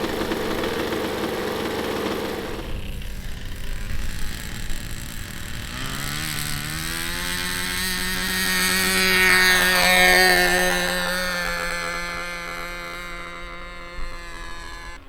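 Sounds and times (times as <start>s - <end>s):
model airplane engine running: 0.0s - 15.0s.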